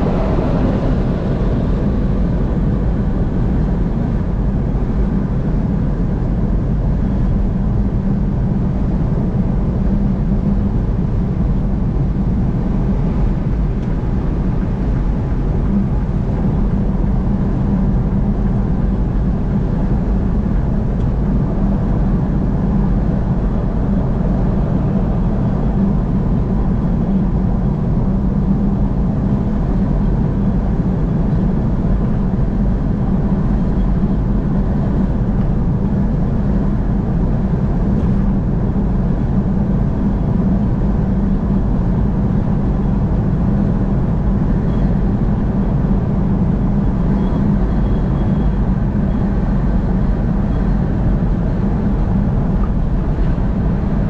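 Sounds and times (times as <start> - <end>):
vehicle road and engine rumble: 0.0 - 54.0.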